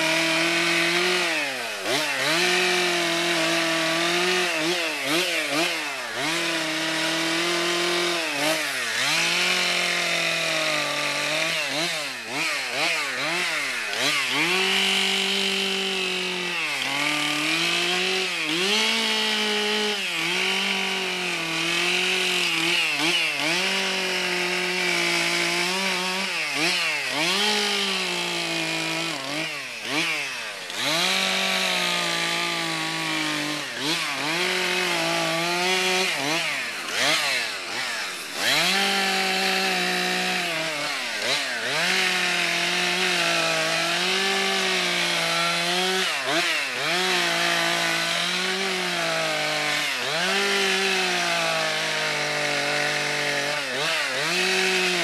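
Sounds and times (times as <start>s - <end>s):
chainsaw carving into log: 0.0s - 55.0s.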